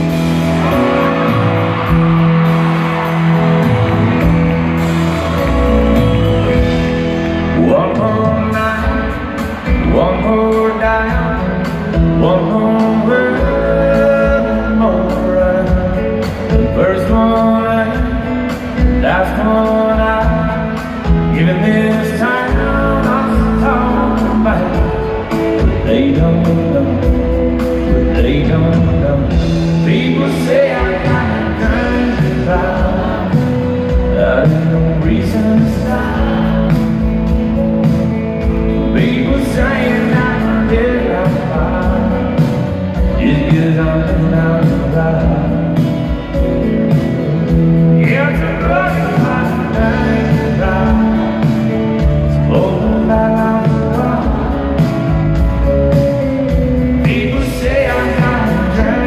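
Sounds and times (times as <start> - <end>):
live country band: 0.0 - 59.0
man singing lead: 0.0 - 59.0.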